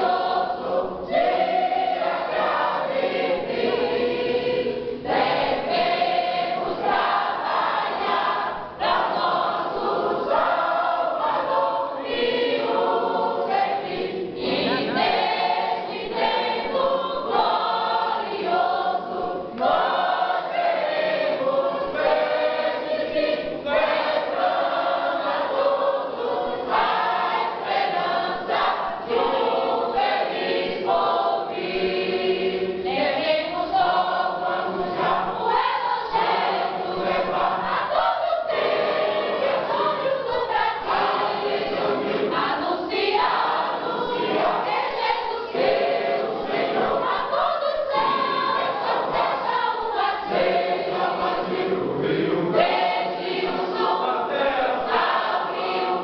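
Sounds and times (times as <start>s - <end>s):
choir singing a gospel hymn: 0.0s - 56.0s.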